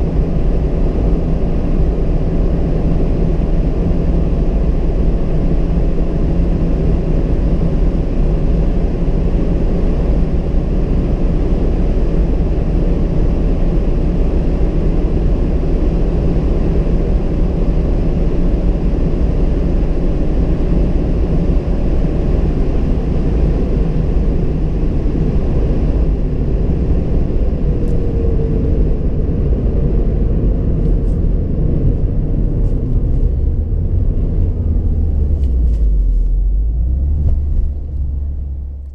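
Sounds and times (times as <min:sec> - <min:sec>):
car engine at speed: 0:00.0 - 0:38.9
road and wind noise: 0:00.0 - 0:38.9.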